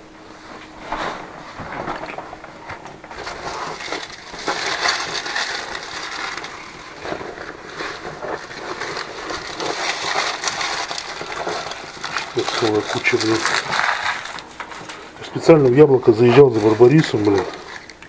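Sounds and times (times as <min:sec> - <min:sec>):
bags rustling and crinkling: 0:00.0 - 0:18.0.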